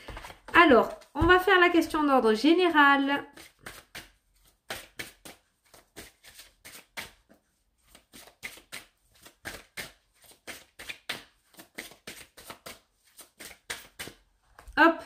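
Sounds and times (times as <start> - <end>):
cards being shuffled: 0.0 - 1.4, 3.3 - 14.7.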